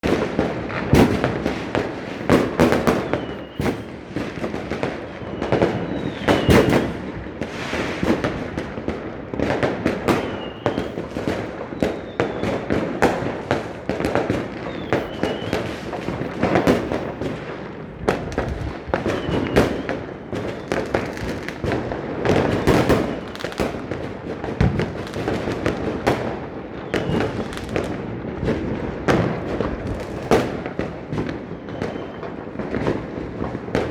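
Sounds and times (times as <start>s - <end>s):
fireworks bangs and crackling: 0.0s - 33.9s.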